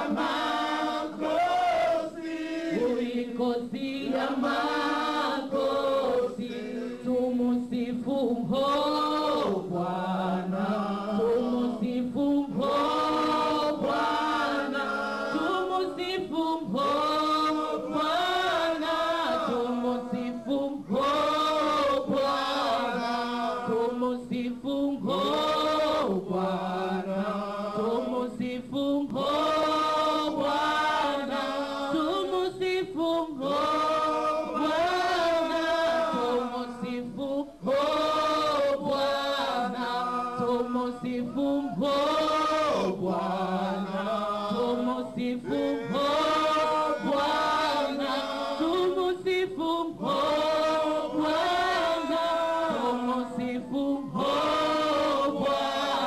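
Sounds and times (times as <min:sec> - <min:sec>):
group singing a praise song: 0:00.0 - 0:56.0.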